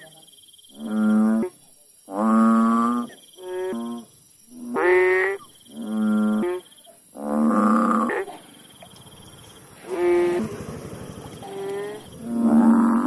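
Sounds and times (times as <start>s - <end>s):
frog calling: 0.0s - 13.0s.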